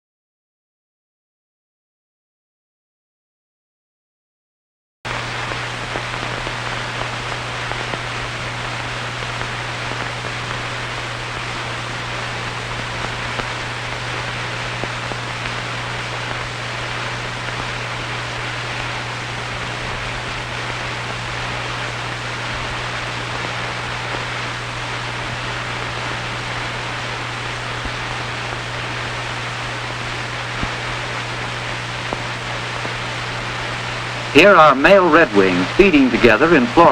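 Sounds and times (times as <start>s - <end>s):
film soundtrack hiss: 5.1s - 36.9s.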